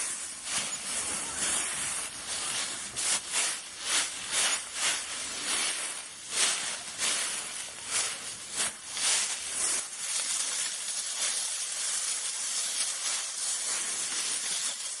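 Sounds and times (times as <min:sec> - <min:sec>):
dry leaves rustling: 0:00.0 - 0:15.0.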